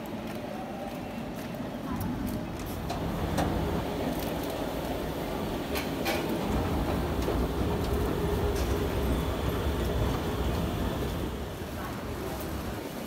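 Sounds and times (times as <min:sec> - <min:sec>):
train rumbling: 0:02.1 - 0:13.0.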